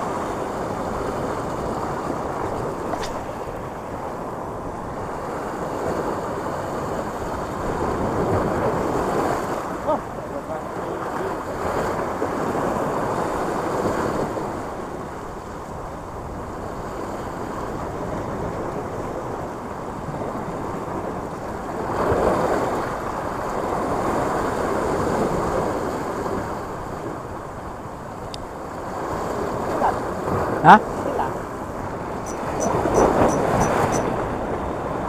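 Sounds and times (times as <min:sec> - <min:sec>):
sea waves breaking over rocks: 0:00.0 - 0:35.0
wind buffeting microphone: 0:00.0 - 0:35.0.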